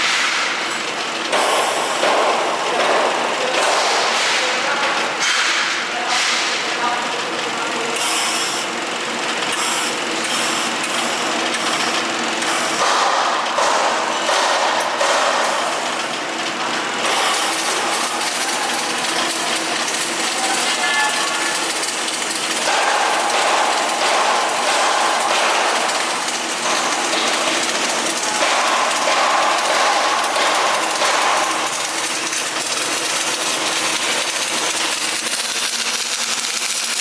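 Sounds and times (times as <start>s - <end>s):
welding hiss and crackle: 0.0s - 7.2s, 7.8s - 37.0s
clatter of tools and machinery: 0.0s - 37.0s.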